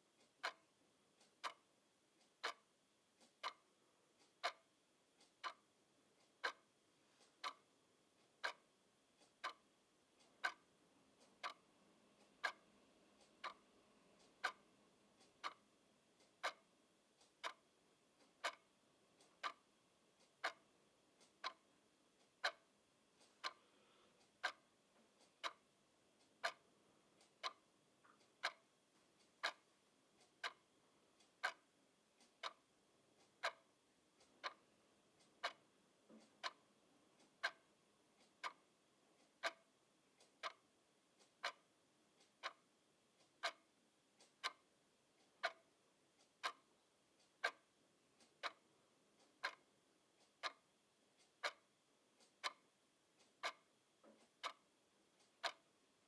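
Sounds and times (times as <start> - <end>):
clock ticking: 0.0 - 56.0.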